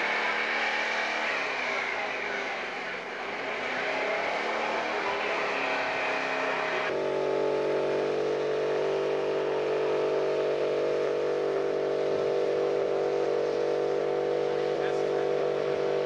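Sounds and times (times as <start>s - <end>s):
car engine at high revs: 0.0s - 16.0s
engine running steadily: 0.0s - 16.0s.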